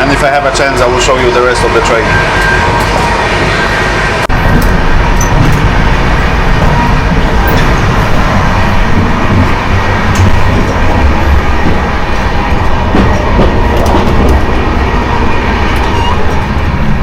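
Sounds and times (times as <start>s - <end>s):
train rumble and rattle: 0.0s - 17.0s.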